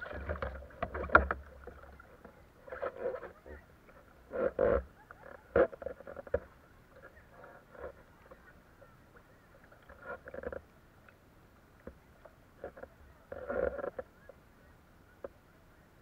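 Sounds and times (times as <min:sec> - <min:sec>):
water splashing around a kayak: 0:00.0 - 0:16.0.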